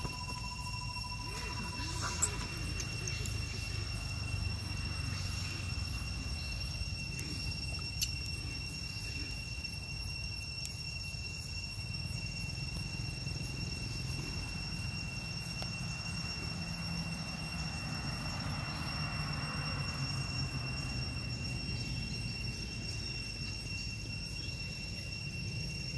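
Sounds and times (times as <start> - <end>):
high-pitched whine: 0.0 - 25.9.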